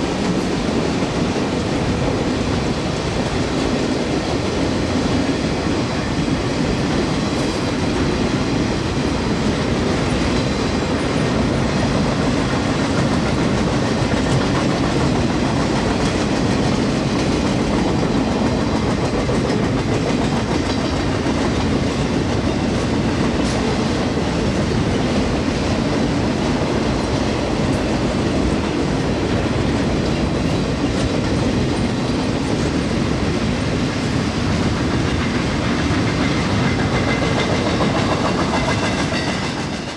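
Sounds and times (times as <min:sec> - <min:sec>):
train wagons rumbling past: 0:00.0 - 0:39.9
wheels clacking over rail joints: 0:00.0 - 0:39.9.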